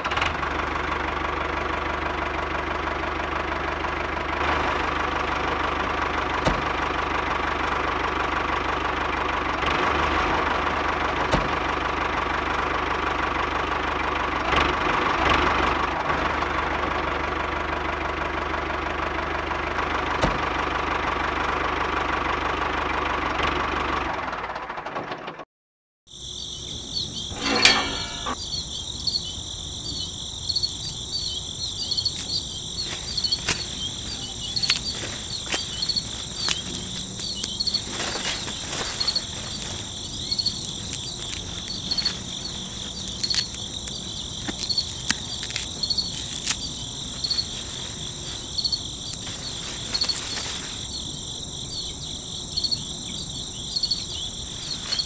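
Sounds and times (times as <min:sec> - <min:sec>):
model tractor motor running: 0:00.0 - 0:25.1, 0:30.6 - 0:51.1.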